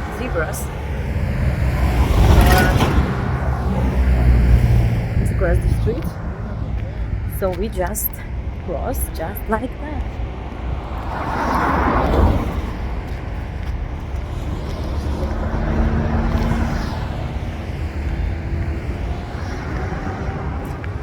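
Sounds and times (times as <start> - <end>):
cars passing by: 0.0 - 21.0
low traffic rumble: 0.0 - 21.0.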